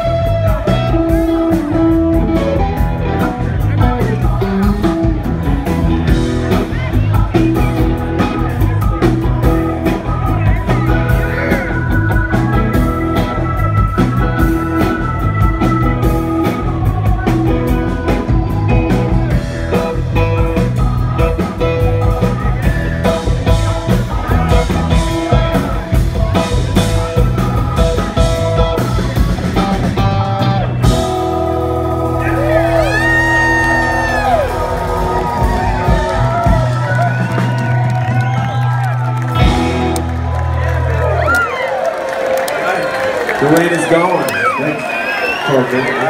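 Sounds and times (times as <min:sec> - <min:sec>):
drum kit beat: 0:00.0 - 0:41.4
rock band playing: 0:00.0 - 0:46.0.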